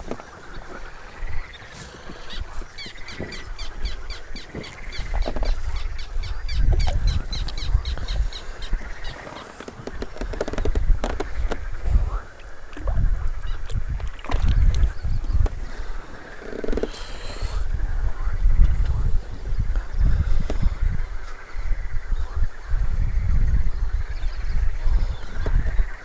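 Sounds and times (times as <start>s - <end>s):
wild birds calling: 0.0s - 26.0s.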